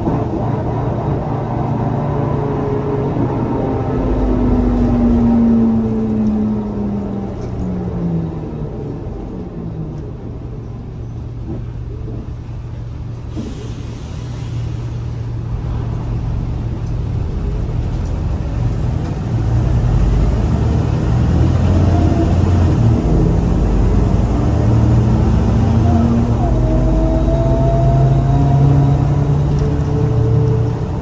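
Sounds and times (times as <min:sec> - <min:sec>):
bus engine drone: 0:00.0 - 0:31.0.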